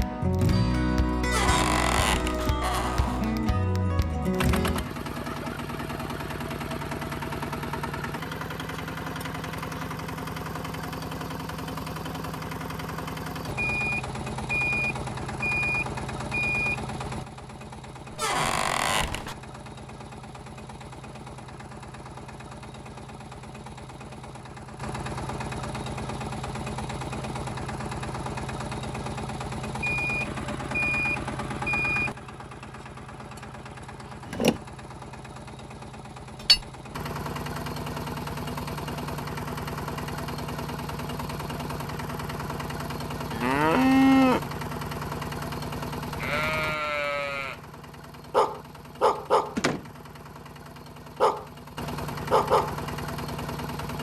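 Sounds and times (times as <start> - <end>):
mini tractor engine hum: 0.0 - 54.0.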